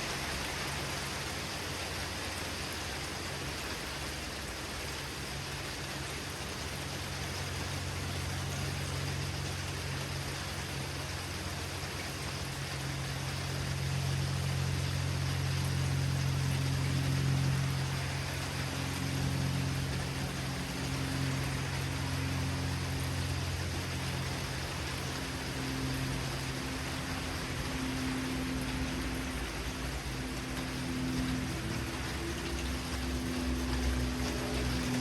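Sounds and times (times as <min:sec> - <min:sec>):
heavy rain hissing: 0:00.0 - 0:35.0.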